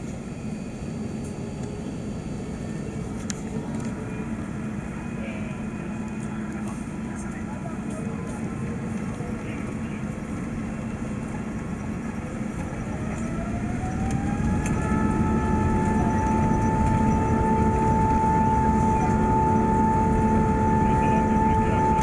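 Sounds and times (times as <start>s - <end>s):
jet engine whine: 0.0s - 22.0s
engine rumble: 1.0s - 22.0s.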